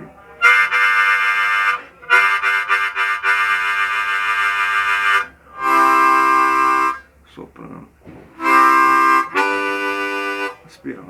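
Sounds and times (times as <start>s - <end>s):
harmonica chords: 0.0s - 7.2s, 8.4s - 11.0s.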